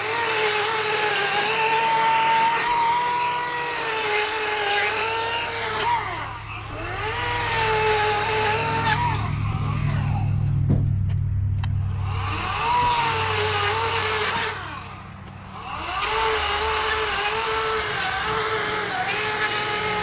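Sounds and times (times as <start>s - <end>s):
electric chainsaw cutting log: 0.0s - 10.7s, 11.6s - 20.0s.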